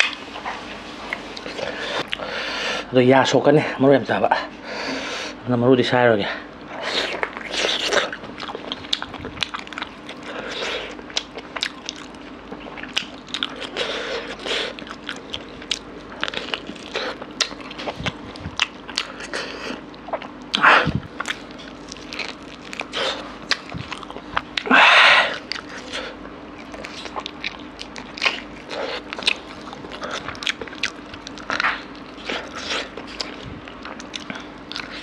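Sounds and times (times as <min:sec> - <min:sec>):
person chewing meat: 0:00.0 - 0:02.9, 0:06.6 - 0:35.0.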